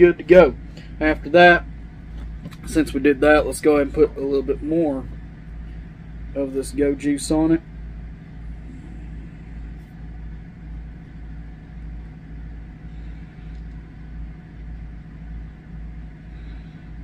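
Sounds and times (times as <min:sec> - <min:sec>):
low hum: 0:00.0 - 0:17.0
low rumble: 0:00.0 - 0:17.0.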